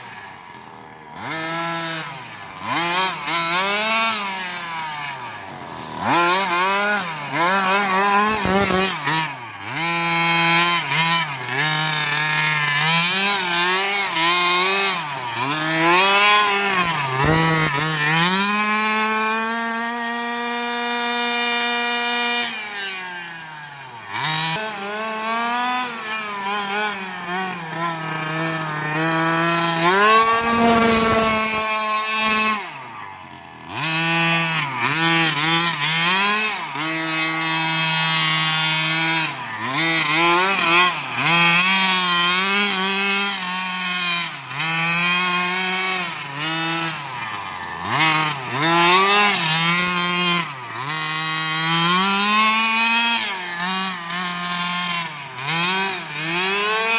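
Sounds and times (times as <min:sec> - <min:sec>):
model car engine revving: 0:00.0 - 0:56.9.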